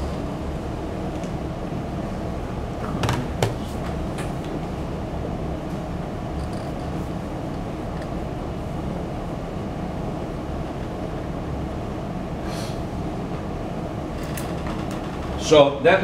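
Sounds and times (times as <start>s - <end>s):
lecture room rumble: 0.0s - 16.0s.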